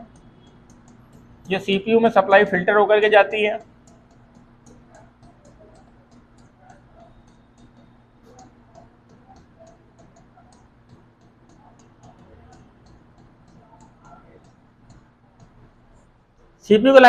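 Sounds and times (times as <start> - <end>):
marker scratching on board: 0.0 - 16.2
faint steady hum: 0.0 - 17.0.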